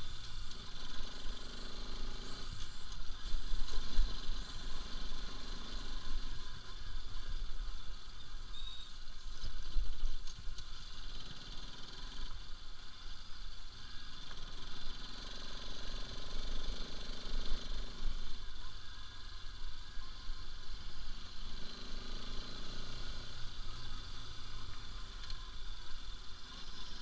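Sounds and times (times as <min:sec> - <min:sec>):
motorcycle engine running: 0:00.0 - 0:27.0
wind and road rumble: 0:00.0 - 0:27.0.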